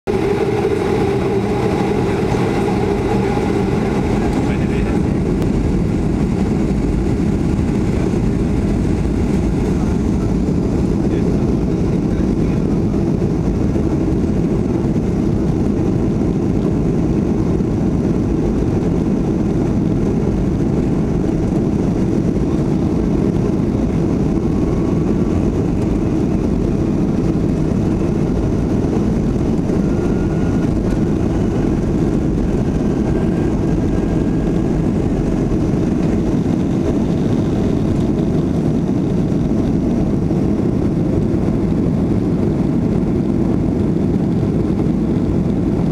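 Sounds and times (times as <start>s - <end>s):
jet engine low rumble in cabin: 0.0s - 45.9s.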